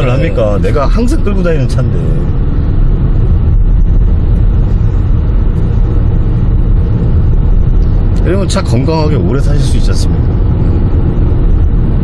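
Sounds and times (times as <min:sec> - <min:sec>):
car interior road and engine rumble: 0:00.0 - 0:12.0.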